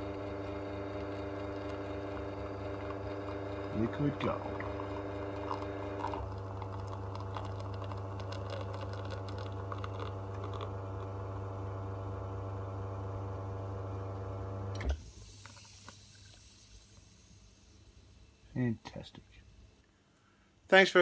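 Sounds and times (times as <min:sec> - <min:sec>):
espresso machine pump humming: 0:00.0 - 0:17.2.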